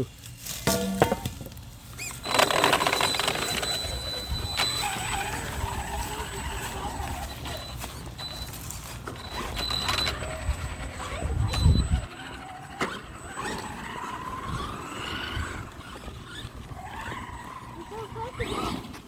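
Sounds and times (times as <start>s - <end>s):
drivetrain and tyres rumble: 1.3s - 19.0s
rc truck motor whine: 1.8s - 19.0s.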